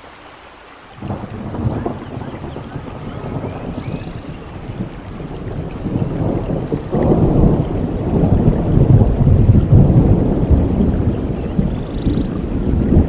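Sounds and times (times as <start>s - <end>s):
rain falling: 0.0s - 13.0s
thunder rumbling: 1.0s - 13.0s.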